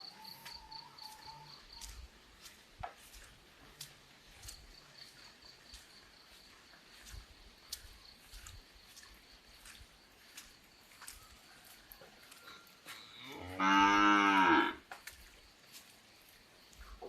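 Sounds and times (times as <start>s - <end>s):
high insect chirp: 0.0s - 17.0s.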